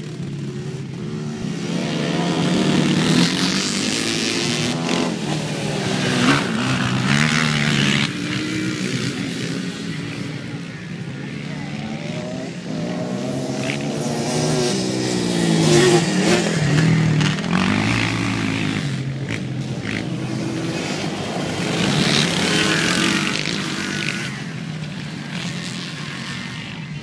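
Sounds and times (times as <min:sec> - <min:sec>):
quad bike engines revving: 0:00.0 - 0:27.0.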